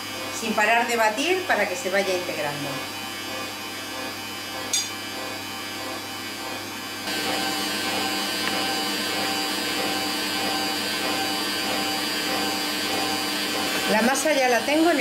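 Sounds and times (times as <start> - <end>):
stand mixer running: 0.0 - 15.0.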